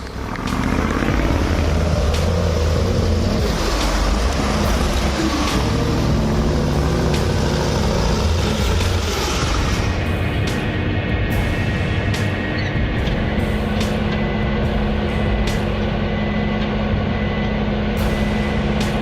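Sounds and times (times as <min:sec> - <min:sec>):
off-road vehicle engine rumbling: 0:00.0 - 0:19.0.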